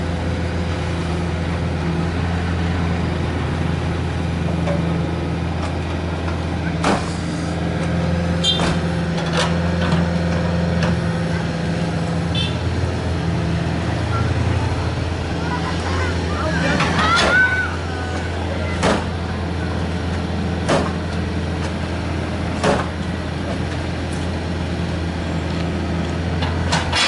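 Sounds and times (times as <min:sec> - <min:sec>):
excavator diesel drone: 0:00.0 - 0:27.0.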